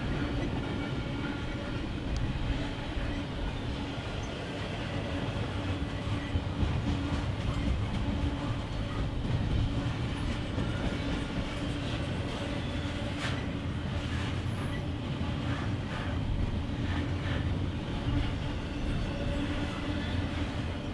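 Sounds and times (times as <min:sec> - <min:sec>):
steel train wheels rumbling on rail: 0:00.0 - 0:20.9.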